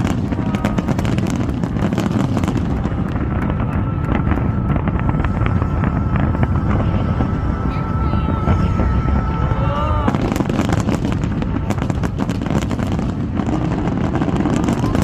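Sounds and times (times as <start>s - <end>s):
fireworks bursting and crackling: 0.0s - 15.0s
low rumble: 0.0s - 15.0s.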